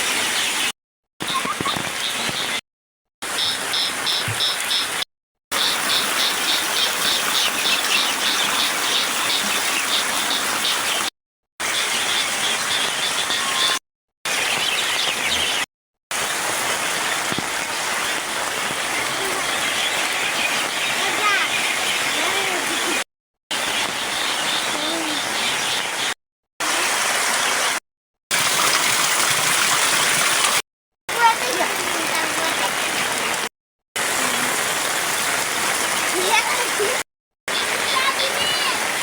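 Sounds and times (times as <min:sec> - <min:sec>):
heavy rain hissing: 0:03.2 - 0:13.7, 0:16.2 - 0:26.0, 0:26.6 - 0:39.0.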